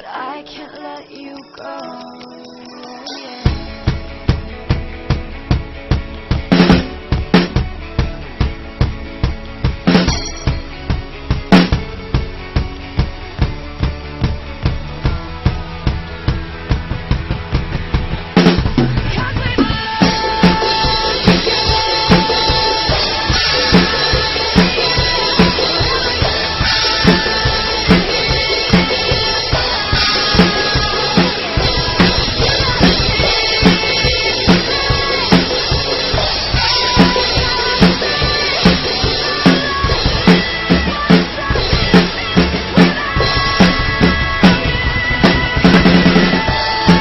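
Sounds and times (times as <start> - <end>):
recorded backing song: 0.0 - 47.0
drum kit playing: 1.9 - 47.0.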